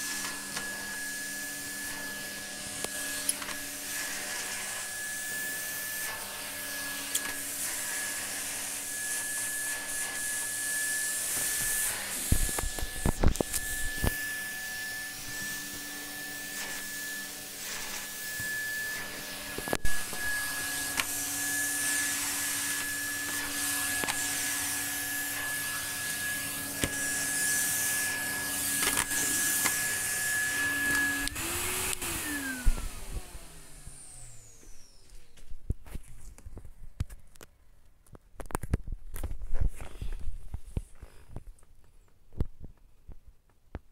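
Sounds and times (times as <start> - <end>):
vacuum cleaner motor: 0.0 - 35.5.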